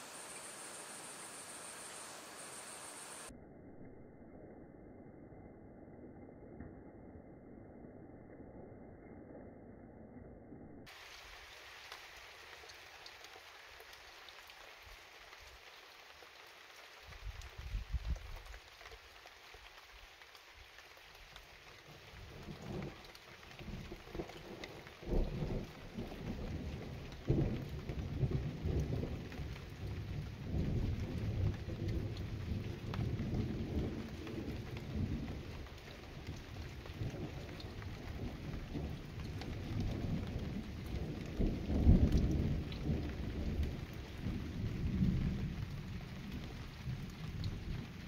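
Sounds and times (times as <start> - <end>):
light rain: 0.0 - 3.4, 10.8 - 48.0.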